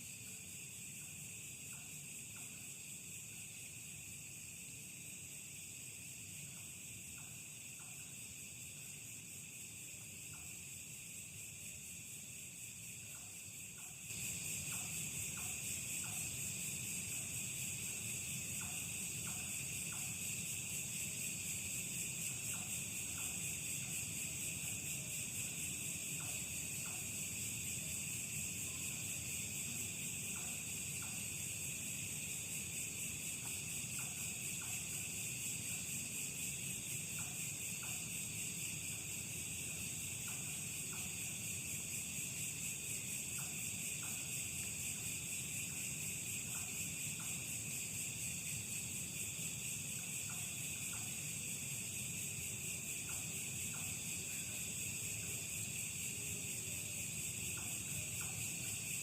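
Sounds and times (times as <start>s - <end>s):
night insects chirping: 0.0s - 59.0s.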